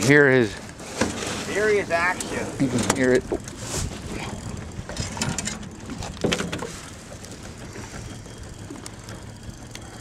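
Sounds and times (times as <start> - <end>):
rush of wind and water: 0.0 - 10.0.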